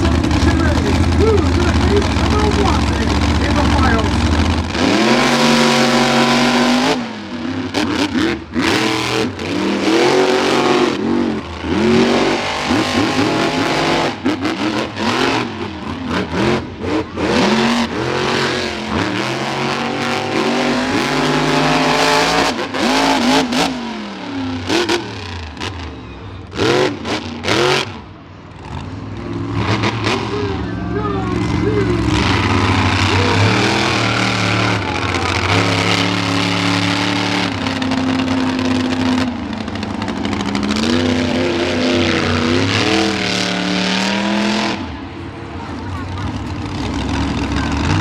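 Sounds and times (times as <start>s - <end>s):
monster truck engines revving: 0.0s - 48.0s.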